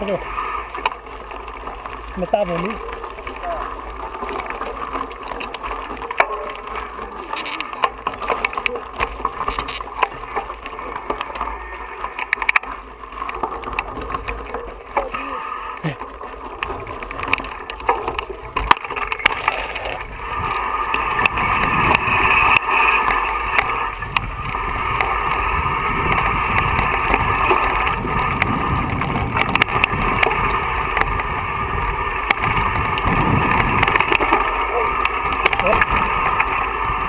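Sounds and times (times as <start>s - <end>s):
bike knocking over rocks: 0.0s - 37.0s
bike tyres rattling on stones: 0.0s - 37.0s.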